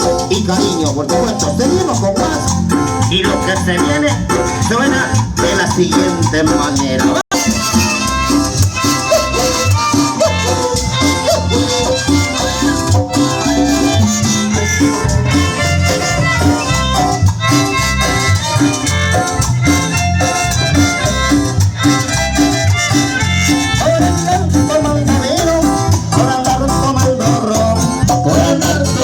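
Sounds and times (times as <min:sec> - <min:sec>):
bass and percussion dance beat: 0:00.0 - 0:29.0.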